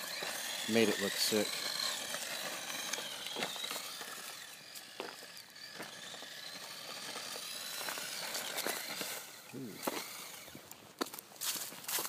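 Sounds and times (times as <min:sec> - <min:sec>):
tyres sliding on pavement: 0:00.0 - 0:10.5
electric motor whining: 0:00.0 - 0:10.8.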